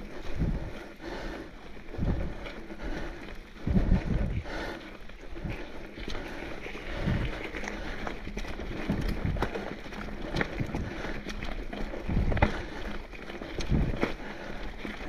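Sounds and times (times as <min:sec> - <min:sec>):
bike rattling over bumps: 0:00.0 - 0:15.0
bike tyres on dirt trail: 0:00.0 - 0:15.0.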